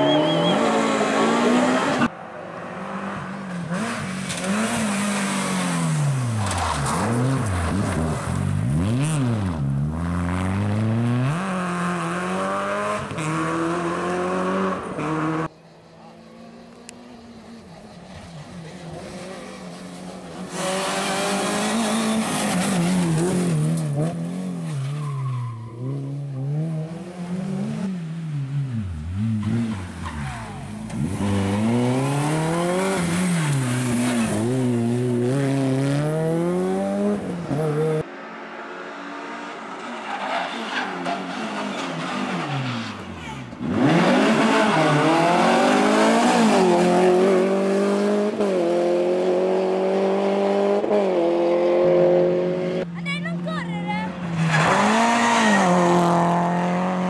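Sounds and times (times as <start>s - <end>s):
car approaching and revving: 0.0s - 57.0s
rally car engines revving: 0.0s - 57.0s.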